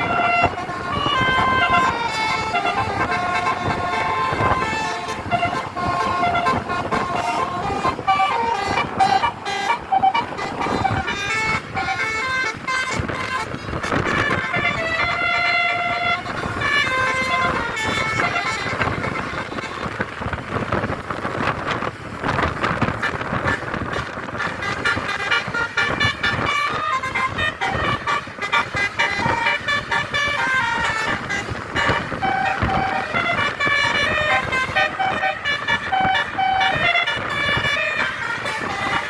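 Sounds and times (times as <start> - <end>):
bus noise: 0.0 - 39.0
musical bus air horns: 0.0 - 39.0.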